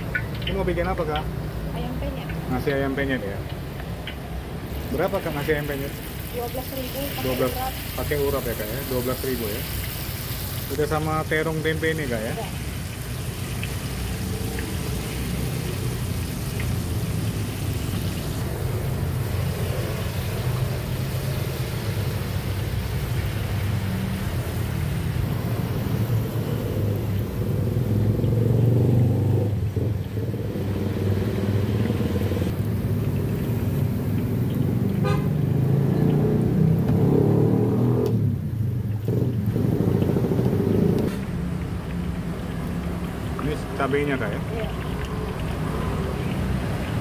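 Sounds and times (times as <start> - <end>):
car and motorcycle engines: 0.0 - 47.0.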